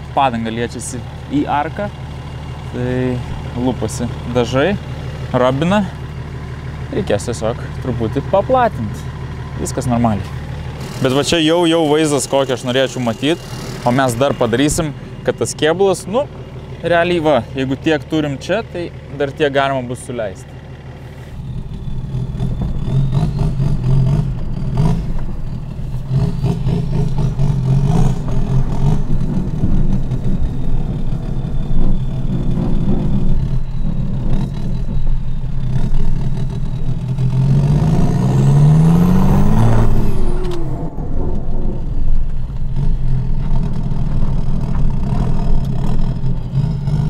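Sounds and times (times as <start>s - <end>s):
diesel car engine running: 0.0s - 47.0s.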